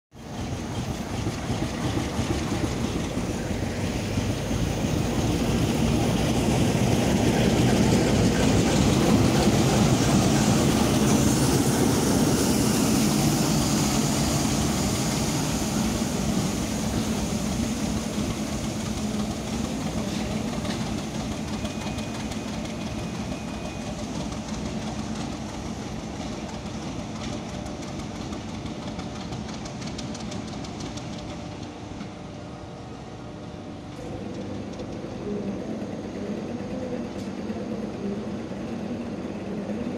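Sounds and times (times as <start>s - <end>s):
diesel locomotive engine running: 0.2s - 39.9s.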